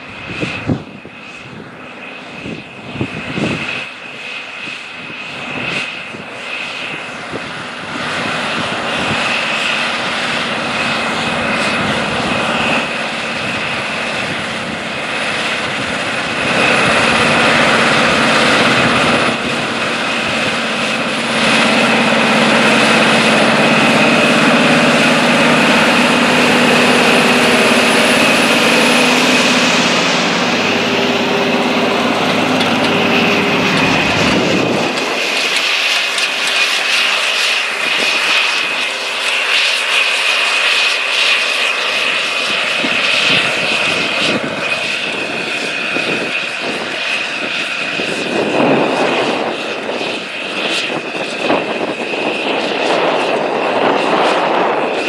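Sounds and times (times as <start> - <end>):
steady high whine: 0.0 - 55.0
tractor diesel engine: 0.0 - 55.0.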